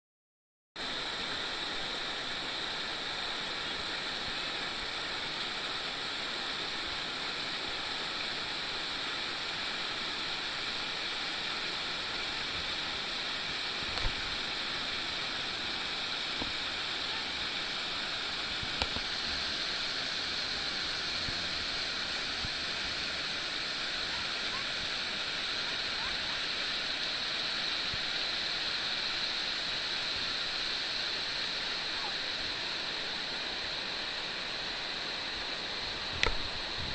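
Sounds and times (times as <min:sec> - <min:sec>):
waterfall and rapids rushing: 0:00.8 - 0:36.9.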